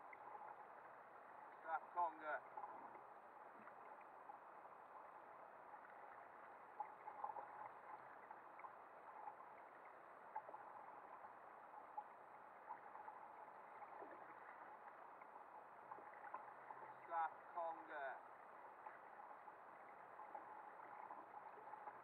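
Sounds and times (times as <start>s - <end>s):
faint water noise: 0.0s - 22.0s.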